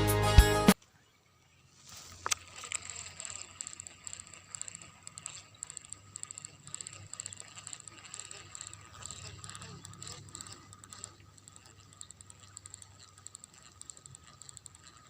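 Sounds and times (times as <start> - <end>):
fishing reel gears clicking: 2.1 - 15.0.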